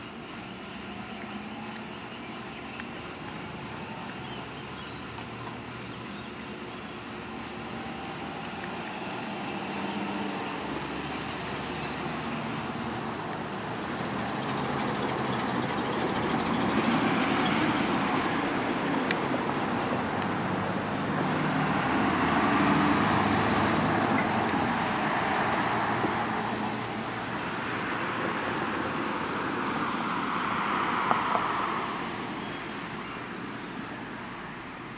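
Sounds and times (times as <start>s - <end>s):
vehicles driving past: 0.0s - 34.9s.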